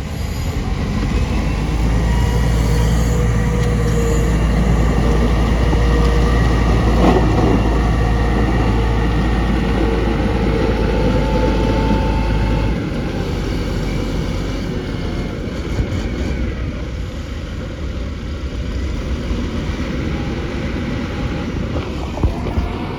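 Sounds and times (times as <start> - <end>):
bulldozer diesel engine rumbling: 0.0 - 22.9.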